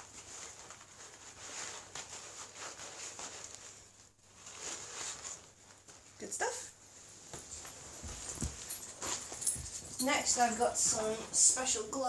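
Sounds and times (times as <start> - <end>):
fabric bandage rustling: 0.0 - 11.8.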